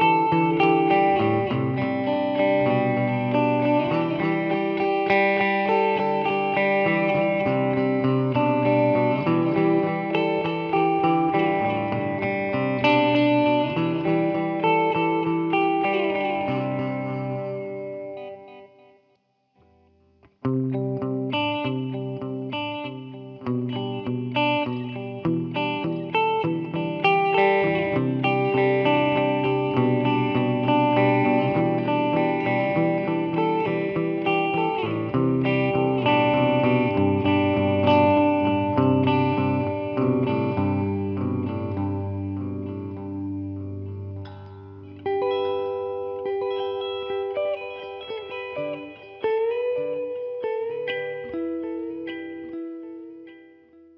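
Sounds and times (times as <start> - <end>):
electric guitar with delay: 0.0 - 53.9.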